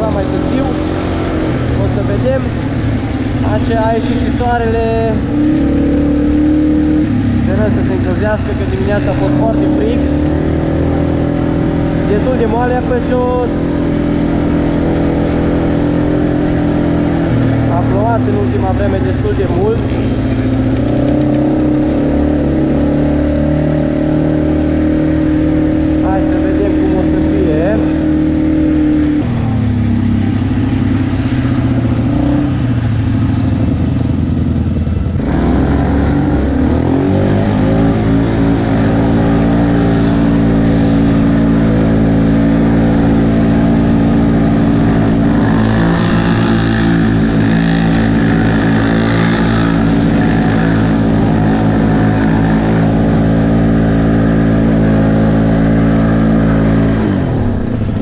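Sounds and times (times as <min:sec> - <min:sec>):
atv engine running under throttle: 0:00.0 - 0:58.0.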